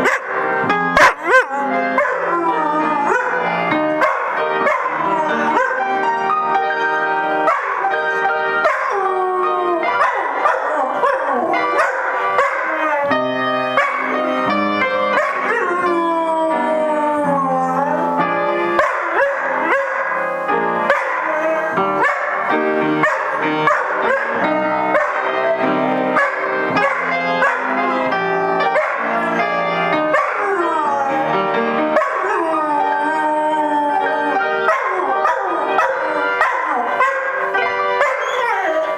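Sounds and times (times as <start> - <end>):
upright piano playing: 0.0 - 38.9
dog howling: 1.0 - 6.3, 8.6 - 38.9.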